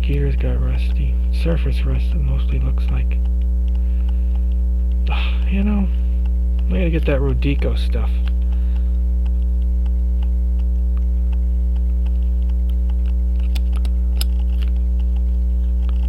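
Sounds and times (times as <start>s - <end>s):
electrical mains hum: 0.0s - 16.0s
faint regular ticking: 0.0s - 16.0s
sharp small clicks: 2.1s - 16.0s.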